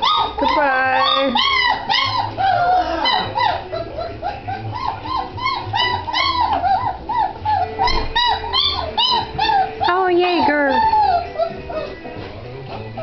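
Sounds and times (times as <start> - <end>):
puppies whimpering and squealing: 0.0 - 13.0.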